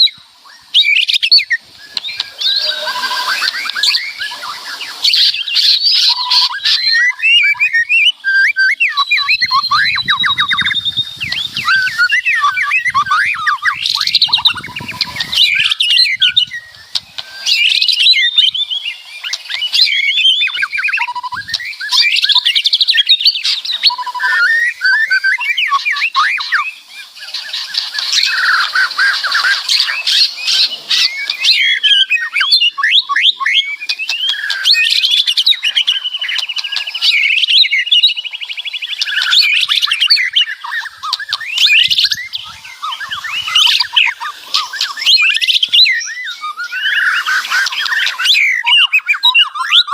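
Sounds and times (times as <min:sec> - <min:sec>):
bird singing: 0:00.0 - 0:49.9.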